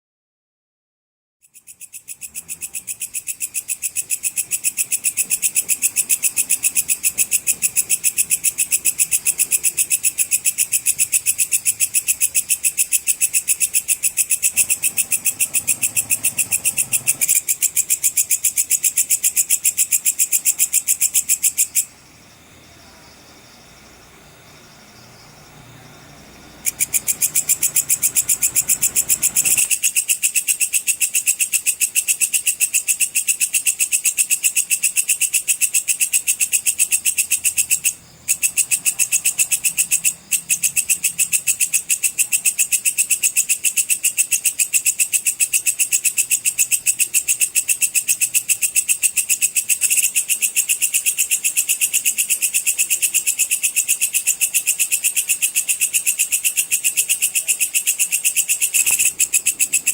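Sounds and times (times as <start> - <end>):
katydid singing: 1.5 - 59.9.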